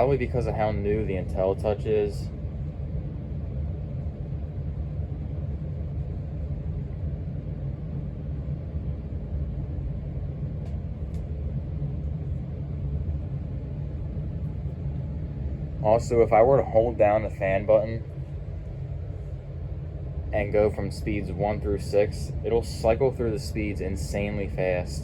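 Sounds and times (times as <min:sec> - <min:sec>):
ceiling fan humming: 0:00.0 - 0:25.0.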